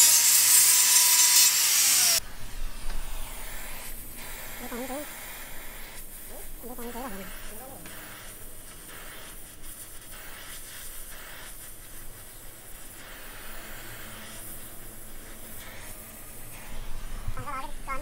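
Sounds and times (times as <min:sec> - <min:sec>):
welding torch flame hissing: 0:00.0 - 0:18.0.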